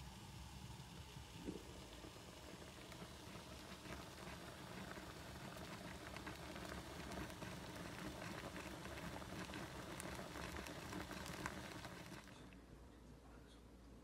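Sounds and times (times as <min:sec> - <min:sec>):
water boiling with bubbling pops: 0:00.0 - 0:12.6.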